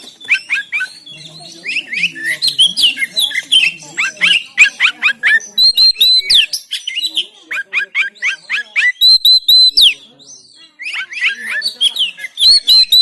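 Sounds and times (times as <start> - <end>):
bird singing whistled notes: 0.0 - 13.0.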